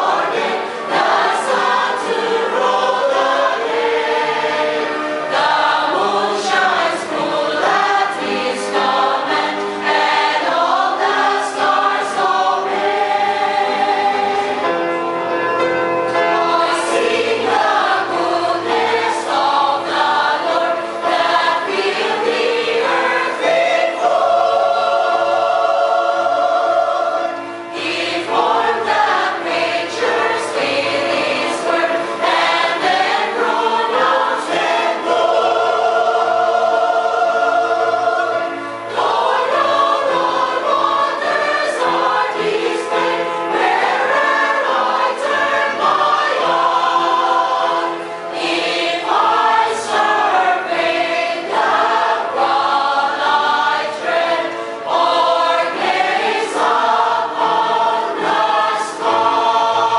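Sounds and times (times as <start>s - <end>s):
mixed choir singing: 0.0s - 15.0s, 16.0s - 59.9s.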